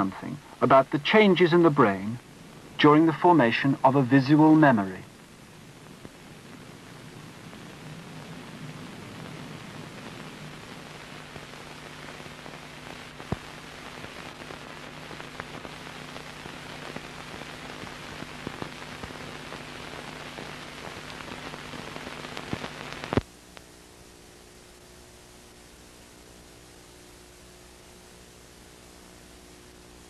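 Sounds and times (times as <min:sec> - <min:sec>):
low steady hum: 0:00.0 - 0:30.0
old film hiss and crackle: 0:00.0 - 0:30.0.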